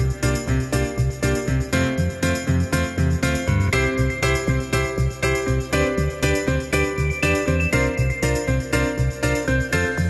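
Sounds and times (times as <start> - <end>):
upbeat music with bell-like notes: 0.0 - 10.0.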